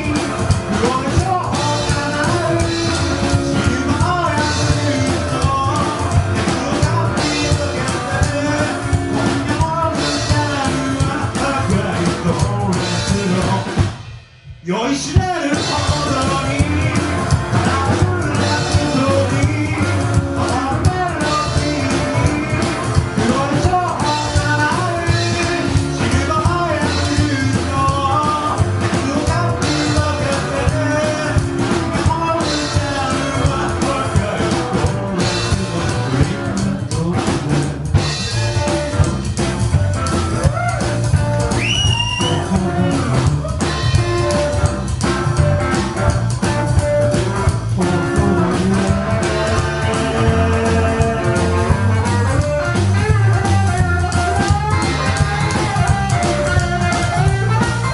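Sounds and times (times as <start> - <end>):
person singing: 0.0 - 13.8, 14.6 - 39.0, 47.1 - 57.9
rockabilly band playing live: 0.0 - 57.9.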